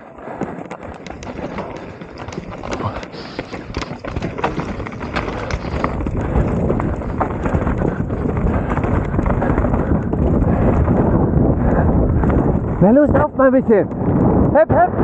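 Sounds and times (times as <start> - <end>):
bike clattering clicks and knocks: 0.0 - 14.6
rushing tyre and wind noise: 0.0 - 15.0.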